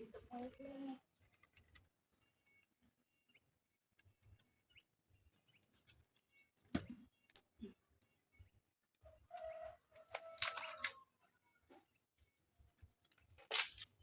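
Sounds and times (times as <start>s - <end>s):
faint bird chirps: 0.0s - 13.4s
small clicks: 0.4s - 14.0s.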